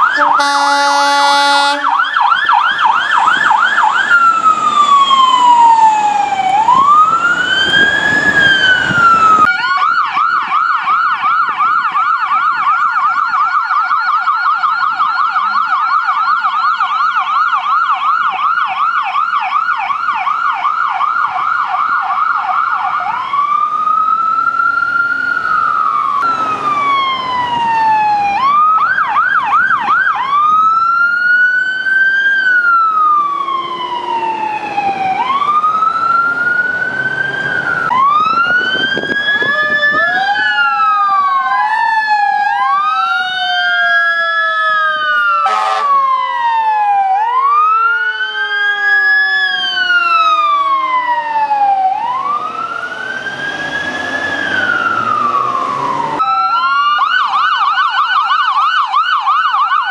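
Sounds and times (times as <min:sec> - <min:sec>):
emergency siren yelping and wailing: 0:00.0 - 0:59.9
second siren wailing: 0:00.0 - 0:59.9.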